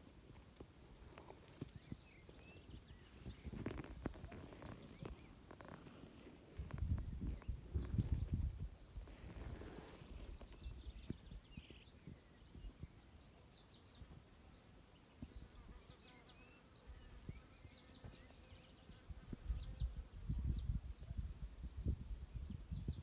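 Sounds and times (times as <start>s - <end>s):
small birds chirping: 0.5s - 23.0s.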